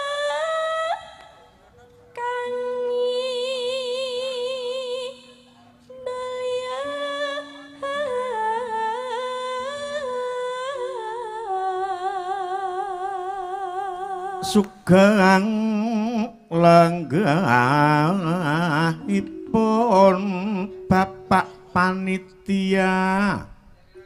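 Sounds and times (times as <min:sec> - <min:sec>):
woman singing with vibrato: 0:00.0 - 0:01.4, 0:02.1 - 0:23.6.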